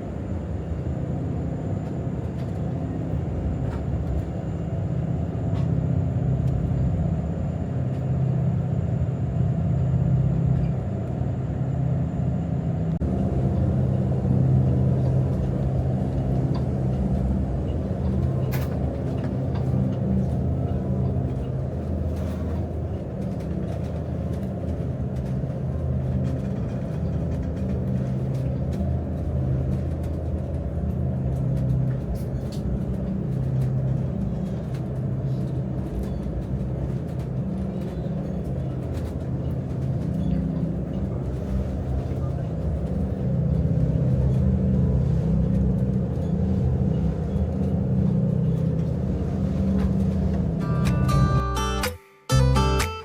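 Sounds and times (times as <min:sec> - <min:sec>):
low engine drone: 0:00.0 - 0:51.9.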